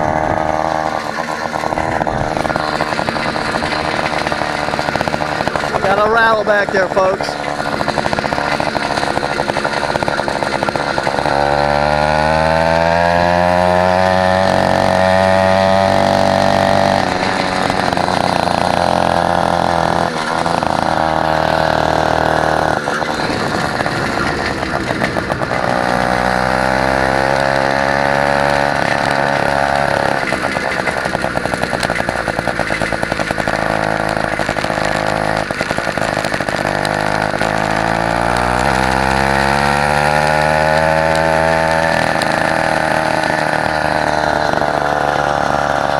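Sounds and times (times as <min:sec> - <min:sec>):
motorized bicycle engine revving: 0:00.0 - 0:45.9.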